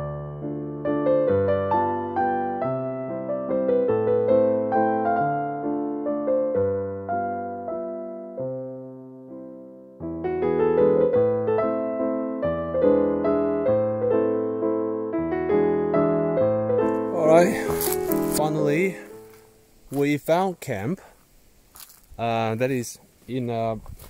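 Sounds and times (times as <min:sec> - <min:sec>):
piano music: 0:00.0 - 0:20.1.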